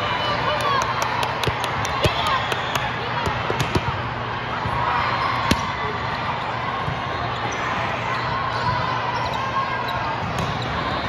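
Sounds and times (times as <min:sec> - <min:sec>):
din of busy sports hall: 0:00.0 - 0:11.0.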